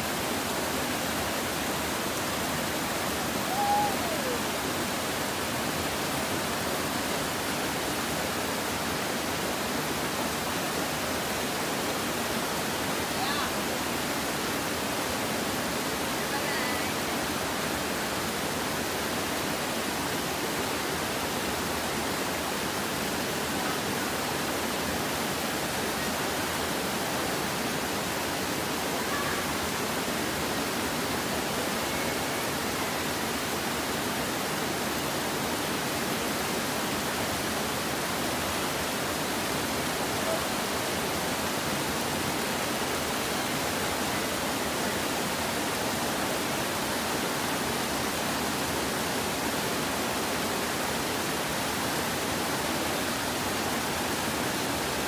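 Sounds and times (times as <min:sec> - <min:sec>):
river rushing through rapids: 0:00.0 - 0:55.0.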